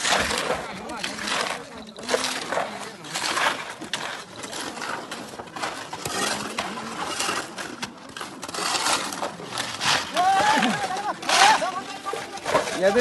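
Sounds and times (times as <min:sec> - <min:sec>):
shovels scraping concrete mix: 0:00.0 - 0:13.0.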